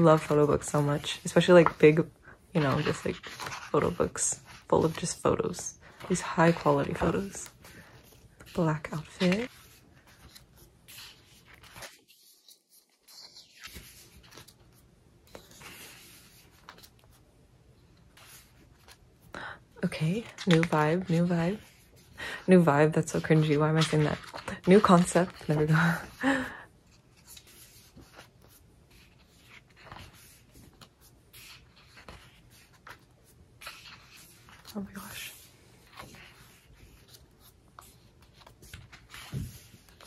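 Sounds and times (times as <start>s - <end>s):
pages turning: 0.0s - 17.3s, 17.9s - 19.2s, 20.1s - 40.0s.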